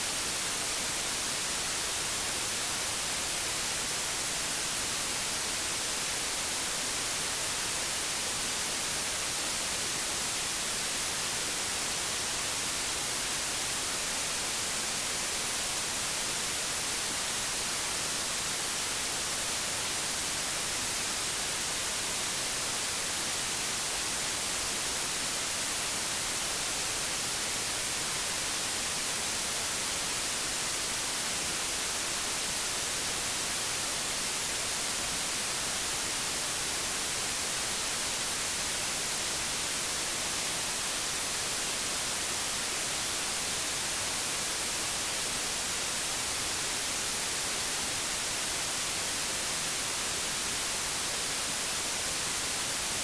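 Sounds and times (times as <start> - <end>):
television static hiss: 0.0 - 53.0.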